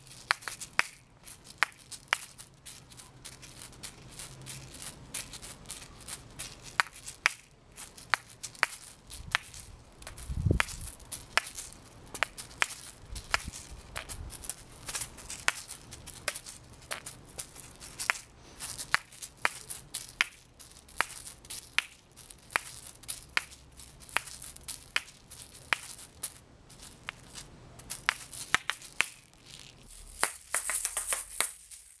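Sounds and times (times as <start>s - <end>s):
dry seed rattle: 0.0s - 32.0s
shaker balls clacking: 0.0s - 32.0s.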